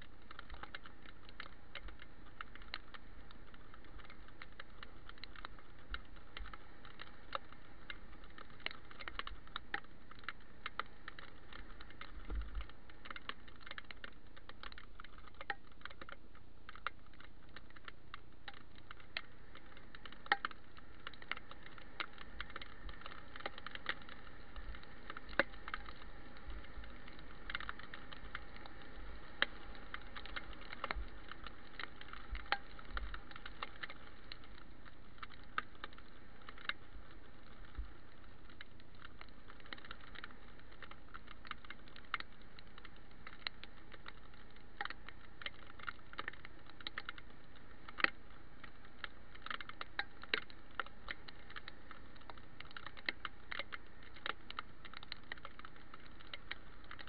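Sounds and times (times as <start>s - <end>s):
raindrops tapping on camera case: 0.0s - 57.0s
steady hiss: 0.0s - 57.0s.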